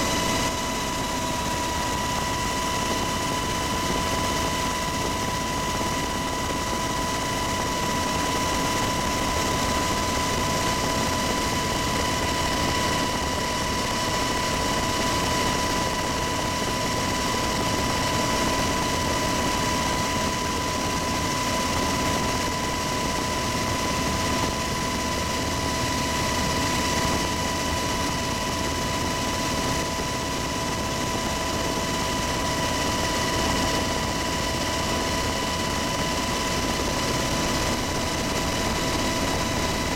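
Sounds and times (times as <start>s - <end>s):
helicopter engine and rotor rush: 0.0s - 39.9s
steady high whine: 0.0s - 39.9s.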